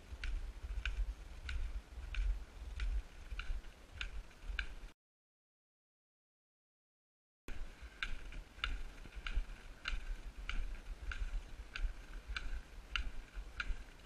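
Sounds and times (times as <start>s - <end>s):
low rumble: 0.0s - 4.9s, 7.5s - 14.0s.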